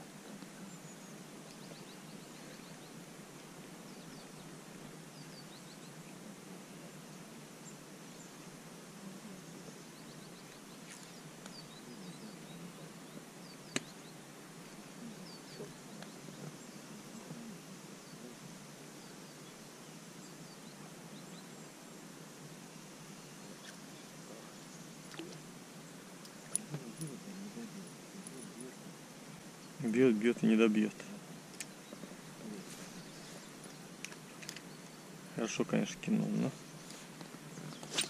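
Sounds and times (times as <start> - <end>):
faint low background noise: 0.0 - 38.0
small birds chirping: 0.0 - 38.0.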